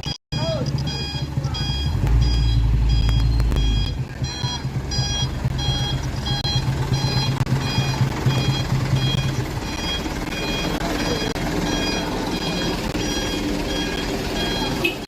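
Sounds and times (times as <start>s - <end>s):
truck engine humming: 0.0s - 15.0s
truck warning beeper: 0.0s - 15.0s
low rumble: 0.4s - 14.5s.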